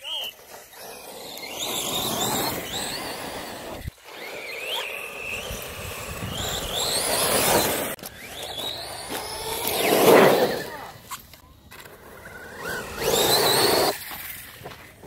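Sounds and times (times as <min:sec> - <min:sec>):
electric motor whining: 0:00.2 - 0:11.0, 0:11.7 - 0:14.4.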